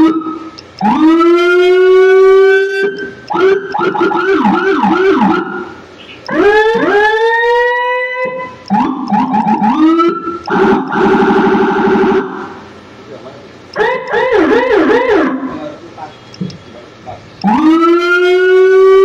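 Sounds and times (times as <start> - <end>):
electronic vehicle siren: 0.0 - 12.6, 13.8 - 15.6, 17.4 - 19.0.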